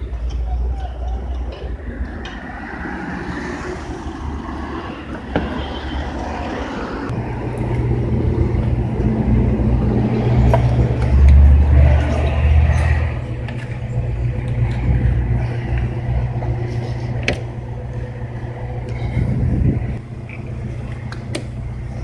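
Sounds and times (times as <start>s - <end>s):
noisy background: 0.0s - 22.0s
vehicle engine humming: 0.0s - 22.0s.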